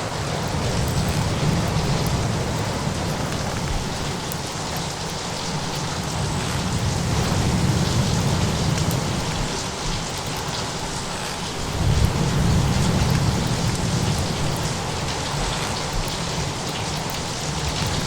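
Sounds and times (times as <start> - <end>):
faint crackles: 0.0 - 18.0
heavy rain hissing: 0.0 - 18.0.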